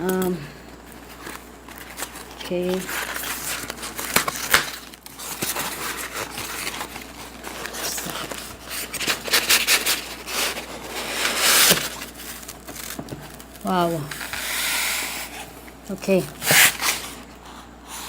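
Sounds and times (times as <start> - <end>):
cardboard box being opened: 1.0 - 15.5.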